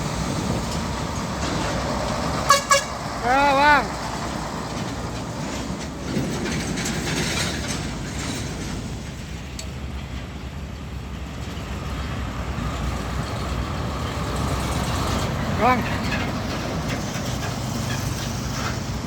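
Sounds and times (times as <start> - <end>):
truck body rattling: 0.0 - 19.0
truck tyre and engine rumble: 0.0 - 19.0.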